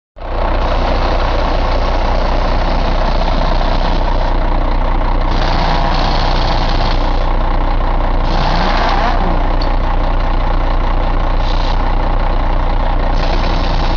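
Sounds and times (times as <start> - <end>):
diesel engine idling: 0.2 - 13.9.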